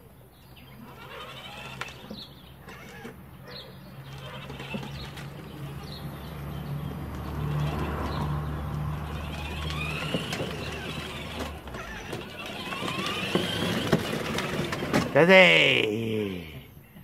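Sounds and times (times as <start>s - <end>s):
plastic wheels clicking on pavers: 0.7s - 15.9s
electric motor hum: 0.8s - 3.2s, 4.0s - 15.3s.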